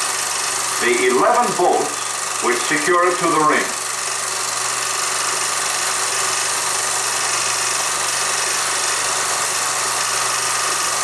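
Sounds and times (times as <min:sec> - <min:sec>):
film projector hiss: 0:00.0 - 0:11.0.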